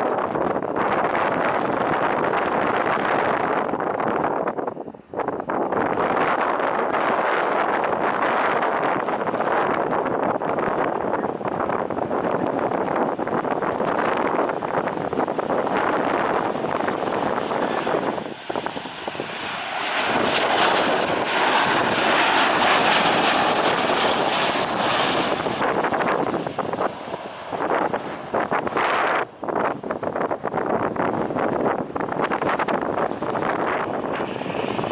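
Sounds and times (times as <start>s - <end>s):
wind buffeting microphone: 0.0s - 34.9s
jet engines rushing: 0.1s - 34.9s.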